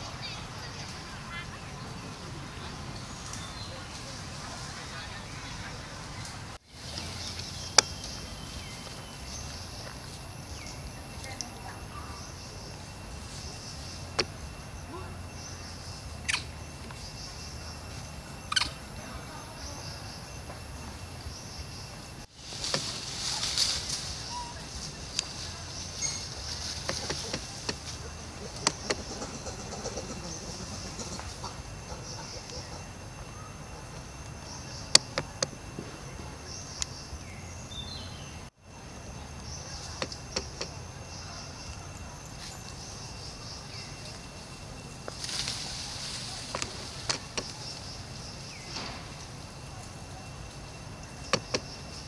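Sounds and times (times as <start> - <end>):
high insect hiss: 0.0 - 52.0.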